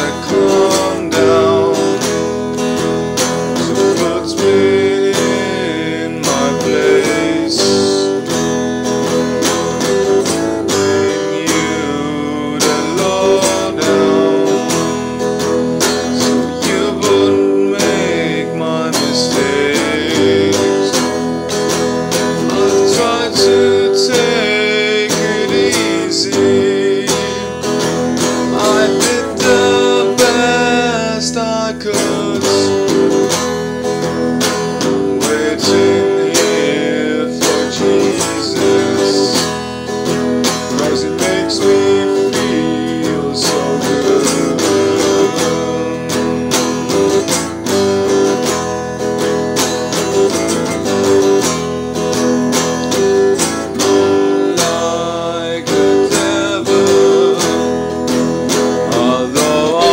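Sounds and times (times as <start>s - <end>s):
acoustic guitar strumming chords: 0.0s - 59.9s.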